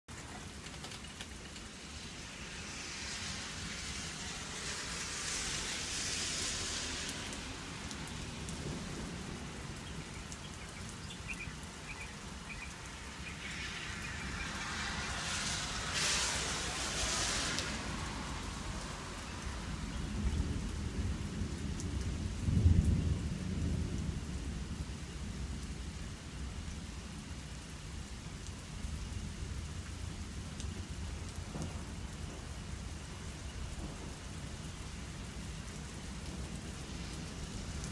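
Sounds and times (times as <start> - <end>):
thunder rumbling: 0.1 - 25.8, 28.9 - 37.9
steady rain falling: 0.1 - 37.9.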